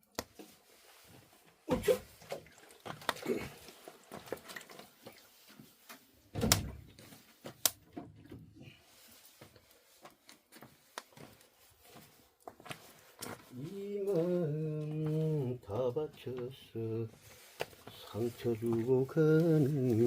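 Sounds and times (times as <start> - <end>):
objects being handled: 0.0 - 20.0.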